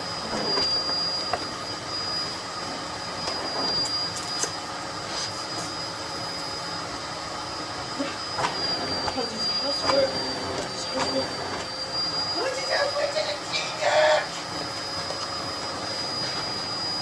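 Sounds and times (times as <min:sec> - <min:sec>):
vacuum cleaner whining: 0:00.0 - 0:17.0.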